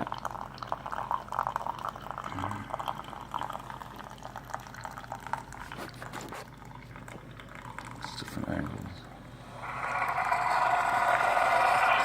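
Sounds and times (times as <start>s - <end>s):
coffee pouring into a mug: 0.0s - 8.9s, 9.5s - 12.0s
coffee maker humming: 0.0s - 12.0s.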